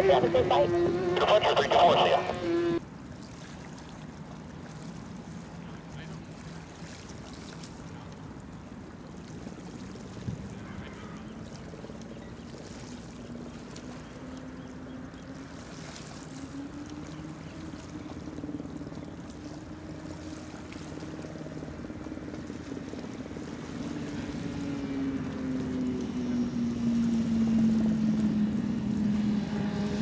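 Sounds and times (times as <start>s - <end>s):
ship engine drone: 0.0s - 3.0s, 7.7s - 30.0s
water noise: 0.0s - 30.0s
wind: 0.0s - 30.0s.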